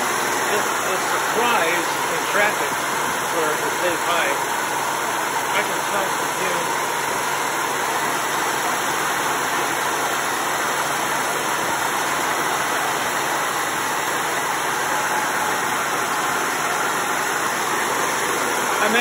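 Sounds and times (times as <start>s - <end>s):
truck engine high idle: 0.0s - 19.0s.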